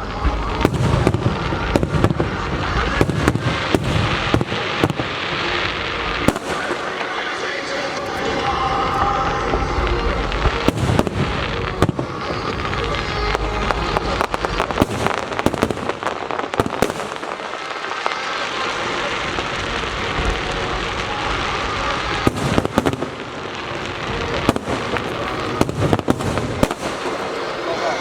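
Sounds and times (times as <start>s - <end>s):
fireworks banging and crackling: 0.0s - 28.0s.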